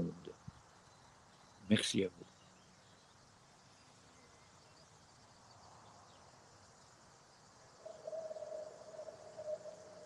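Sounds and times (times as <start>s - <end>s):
outdoor ambience hiss: 0.0s - 10.0s.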